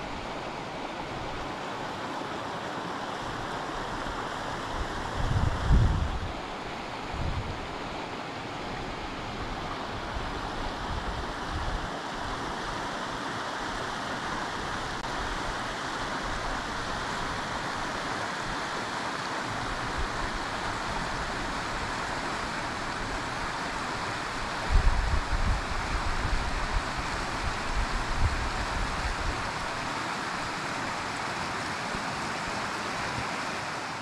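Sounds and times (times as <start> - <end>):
river rushing over rapids: 0.0 - 34.0.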